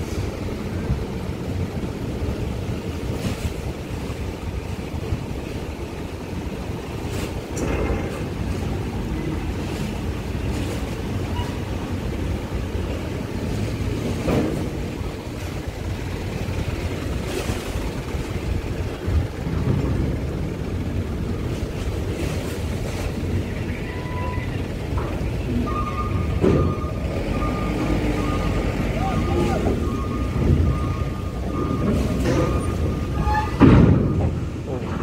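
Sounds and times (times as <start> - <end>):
truck engines rumbling: 0.0 - 35.0.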